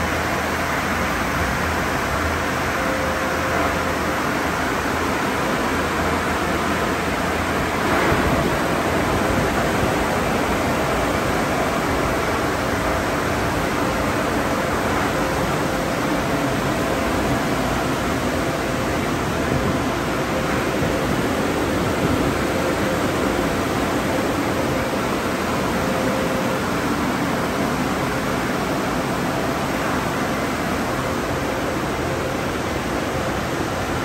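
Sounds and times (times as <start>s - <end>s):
dryer blowers rushing air: 0.0s - 34.0s
faint hum: 0.0s - 34.0s.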